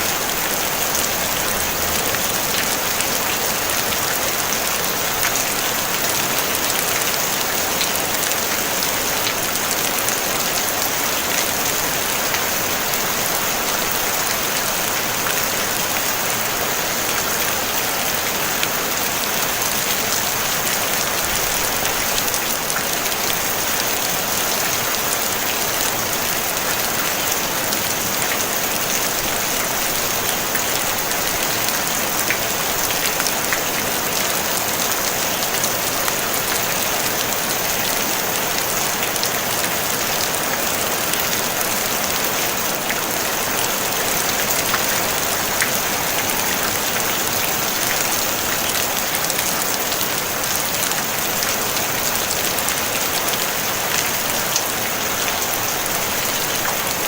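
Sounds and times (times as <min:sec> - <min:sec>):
rain drumming on a tin roof: 0:00.0 - 0:57.0.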